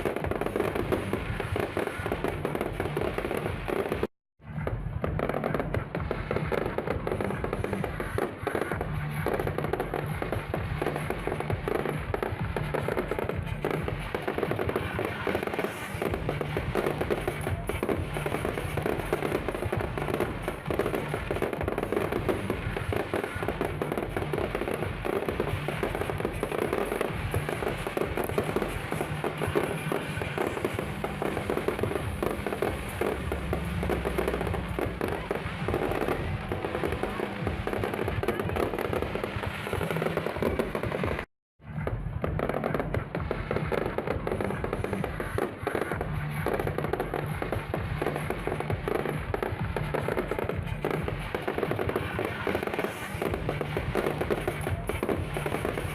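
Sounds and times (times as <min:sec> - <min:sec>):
fireworks crackling and popping: 0:00.0 - 0:55.9
music playing: 0:00.0 - 0:55.9.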